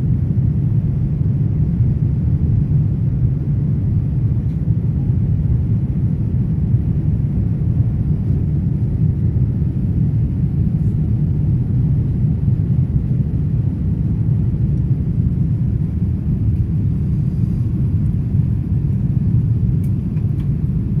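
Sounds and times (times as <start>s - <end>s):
jet engine rumble in cabin: 0.0s - 21.0s.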